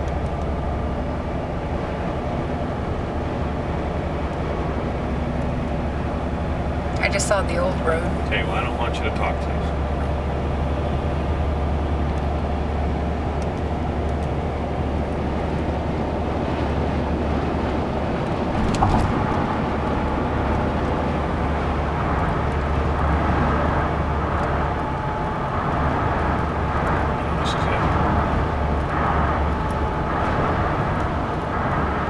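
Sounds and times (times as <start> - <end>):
car road noise: 0.0 - 32.0.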